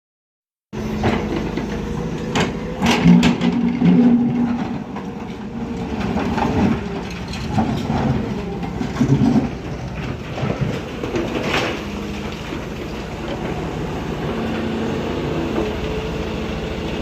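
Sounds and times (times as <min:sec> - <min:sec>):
diesel engine running: 0:00.8 - 0:17.0.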